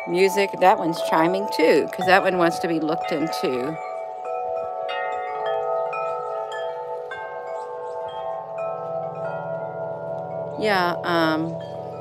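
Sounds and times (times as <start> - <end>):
tubular wind chime ringing: 0.0 - 12.0.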